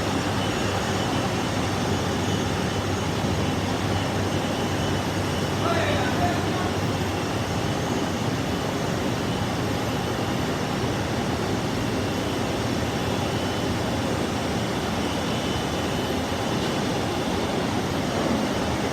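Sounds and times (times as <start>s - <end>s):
jet engines running: 0.0s - 18.9s.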